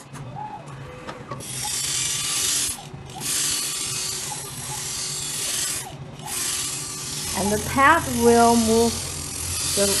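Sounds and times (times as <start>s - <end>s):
grinding machine motor hum: 1.4s - 10.0s
grinding pad hissing on glass: 1.4s - 10.0s.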